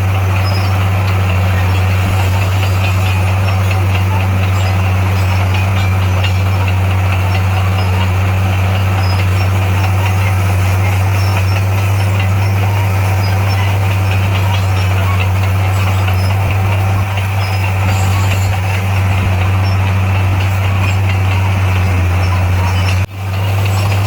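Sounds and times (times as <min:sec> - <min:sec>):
heavy diesel engine humming: 0:00.0 - 0:24.0.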